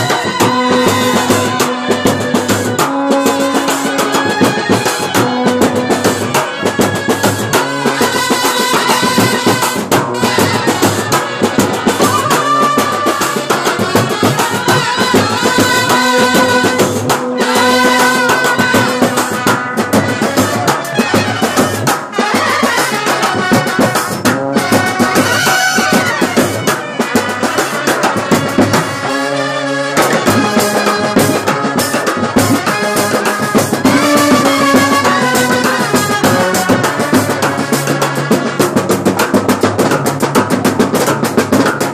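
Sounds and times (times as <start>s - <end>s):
trumpets playing tune: 0.0s - 39.4s
drums beating: 0.0s - 41.9s.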